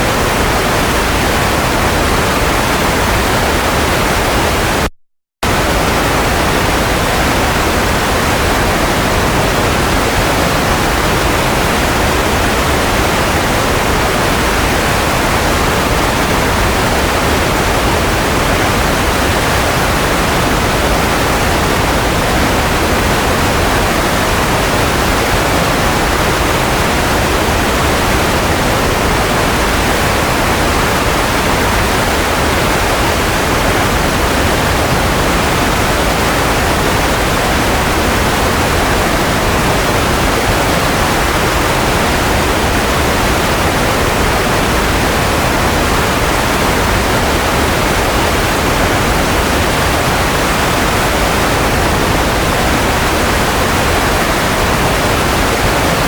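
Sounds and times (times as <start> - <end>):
loud white noise hiss: 0.0 - 56.0.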